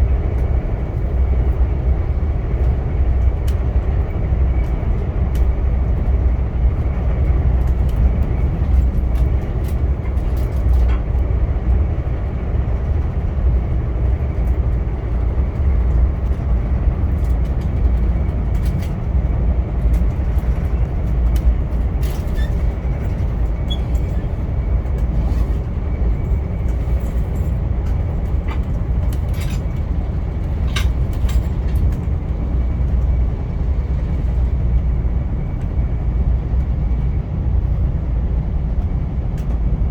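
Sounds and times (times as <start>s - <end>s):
train rumbling along track: 0.0s - 39.9s.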